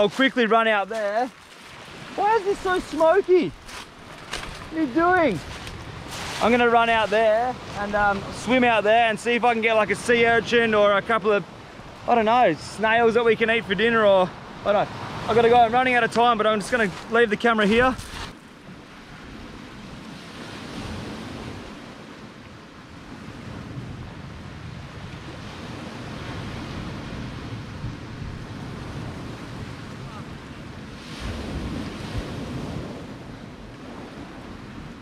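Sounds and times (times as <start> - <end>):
wind buffeting microphone: 0.0 - 22.1, 22.8 - 35.0
waves washing up a stony beach: 0.0 - 35.0.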